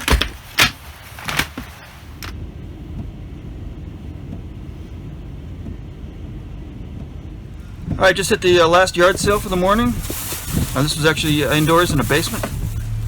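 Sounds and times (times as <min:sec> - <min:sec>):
car rumble heard from inside: 0:02.1 - 0:13.0.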